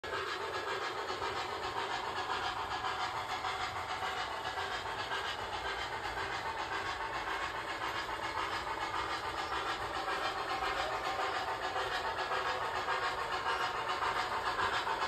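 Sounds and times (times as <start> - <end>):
model steam locomotive chuffing: 0.0 - 15.0
model train rolling: 0.0 - 15.0.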